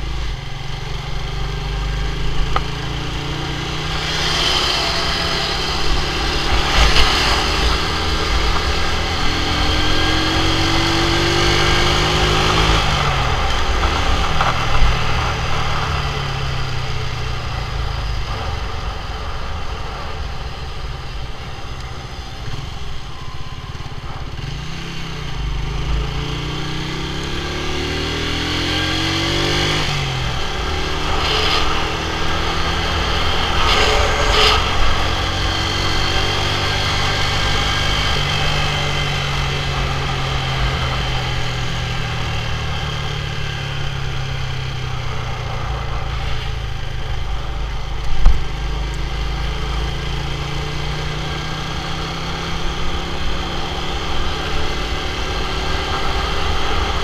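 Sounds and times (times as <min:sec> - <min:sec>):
motorcycle engine revving: 0:00.0 - 0:57.0
road noise: 0:00.0 - 0:57.0.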